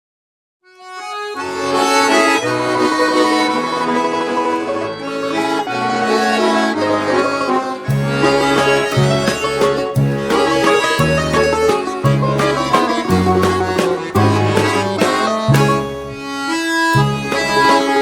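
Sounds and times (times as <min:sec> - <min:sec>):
accordion music: 0:00.6 - 0:18.0.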